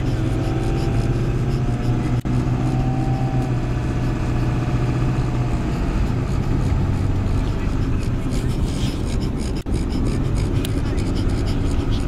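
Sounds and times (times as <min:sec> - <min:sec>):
road and engine noise in truck cab: 0:00.0 - 0:12.0.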